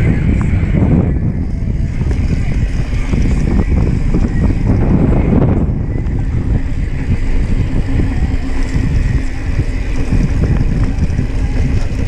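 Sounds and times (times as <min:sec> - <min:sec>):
bike rattling and knocking: 0:00.0 - 0:12.0
wind buffeting microphone: 0:00.0 - 0:12.0.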